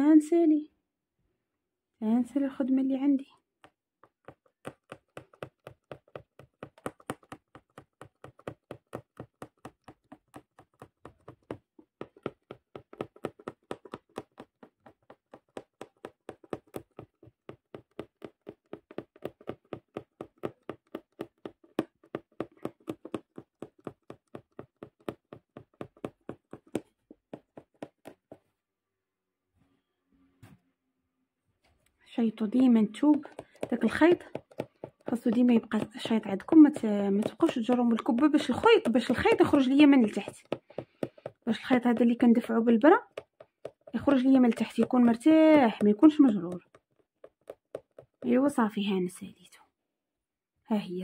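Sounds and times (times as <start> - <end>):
punch needle tapping through fabric: 3.5 - 28.5, 32.6 - 48.5.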